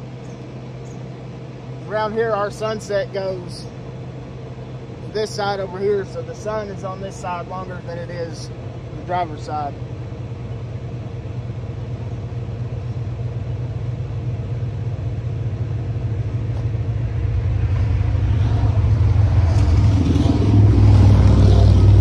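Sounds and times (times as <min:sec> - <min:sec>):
low mechanical rumble: 0:00.0 - 0:22.0.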